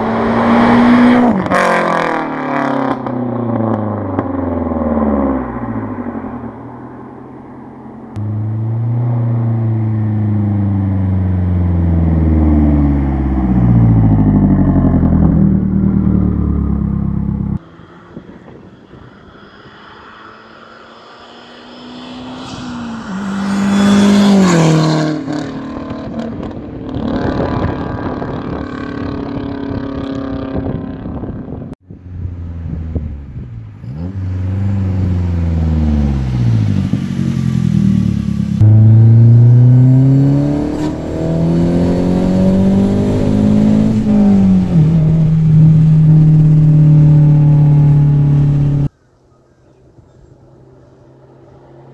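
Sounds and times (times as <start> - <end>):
car engine accelerating hard: 0.0 - 31.3, 32.2 - 48.9.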